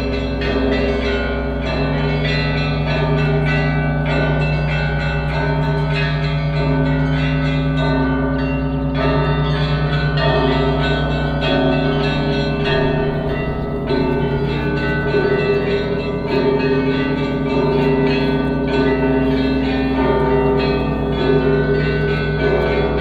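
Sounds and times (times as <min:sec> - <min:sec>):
large bell humming: 0:00.0 - 0:23.0
small church bells ringing: 0:00.0 - 0:23.0.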